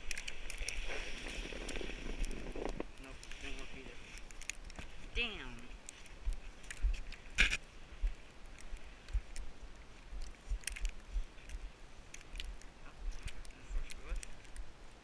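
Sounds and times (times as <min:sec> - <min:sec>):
sled crunching and scraping on snow: 0:00.0 - 0:15.0.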